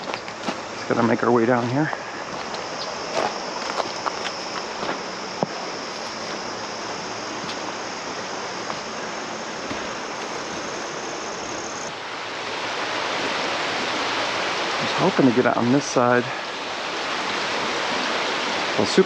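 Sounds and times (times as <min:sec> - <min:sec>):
rushing river water: 0:00.0 - 0:19.0.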